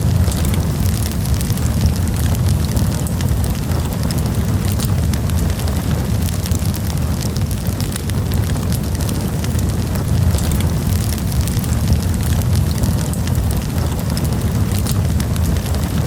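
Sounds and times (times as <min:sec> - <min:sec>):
wood campfire crackling: 0:00.0 - 0:16.0.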